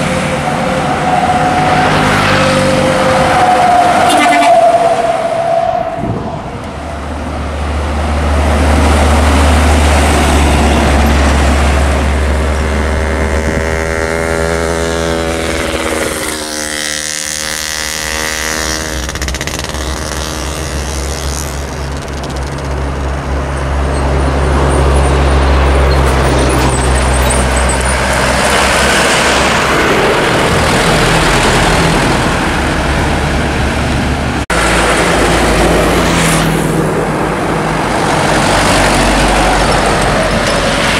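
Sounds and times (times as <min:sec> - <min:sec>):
diesel trucks driving past: 0:00.0 - 0:40.9.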